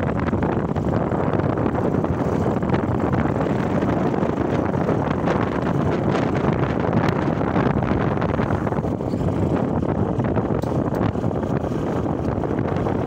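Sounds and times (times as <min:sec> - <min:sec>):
motorcycle running: 0:00.0 - 0:13.0
road noise: 0:00.0 - 0:13.0
wind buffeting microphone: 0:00.0 - 0:13.0.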